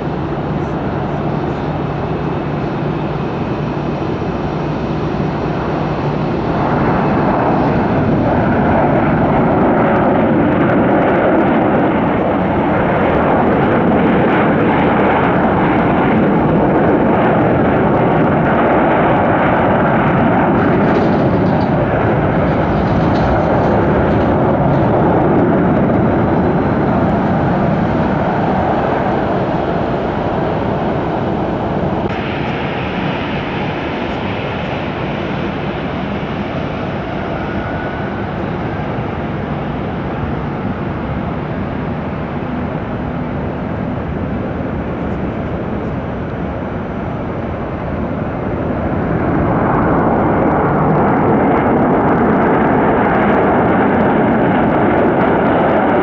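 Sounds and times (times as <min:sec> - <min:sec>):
jet airliner landing: 0:00.0 - 0:56.0.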